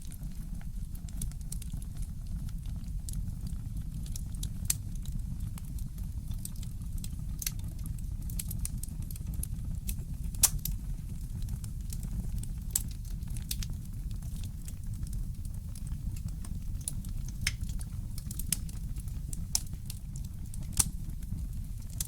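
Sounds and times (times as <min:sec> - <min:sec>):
wood fire crackling: 0:00.1 - 0:22.0.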